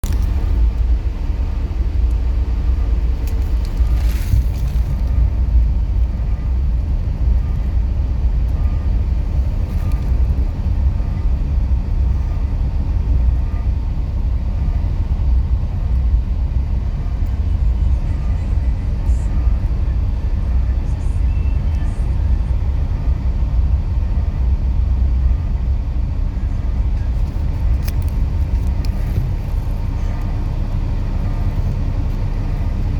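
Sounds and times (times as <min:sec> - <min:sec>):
train rumbling past: 0:00.0 - 0:32.9.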